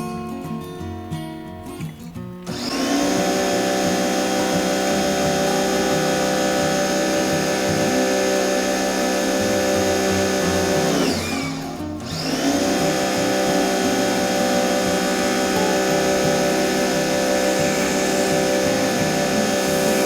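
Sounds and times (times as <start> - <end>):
pressure washer whining: 2.5 - 20.0.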